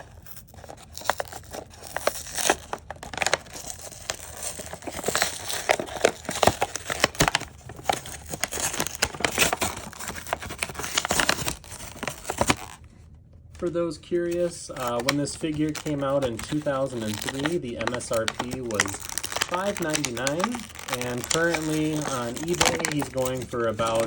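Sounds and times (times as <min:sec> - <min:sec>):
cardboard tearing: 0:00.0 - 0:12.9, 0:14.2 - 0:24.0
plastic blister crinkling: 0:00.0 - 0:24.0.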